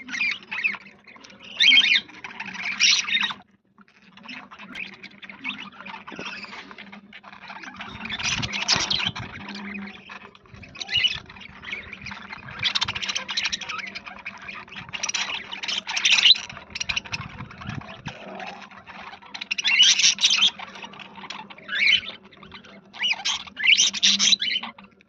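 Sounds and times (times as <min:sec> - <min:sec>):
budgerigars chattering: 0:00.0 - 0:25.0.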